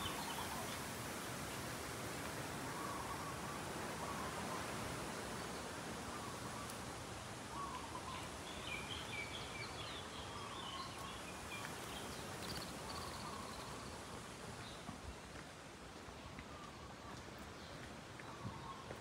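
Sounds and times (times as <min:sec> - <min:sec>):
outdoor hiss: 0:00.0 - 0:18.7.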